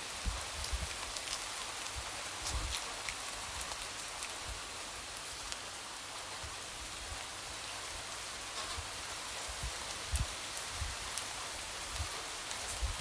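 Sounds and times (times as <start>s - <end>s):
light rain: 0.0s - 13.0s.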